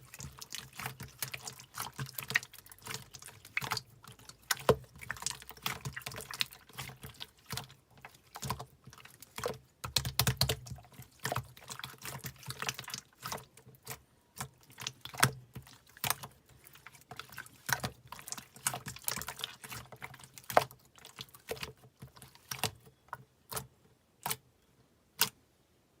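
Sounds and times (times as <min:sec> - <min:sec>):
slime squelching and popping: 0:00.0 - 0:22.9.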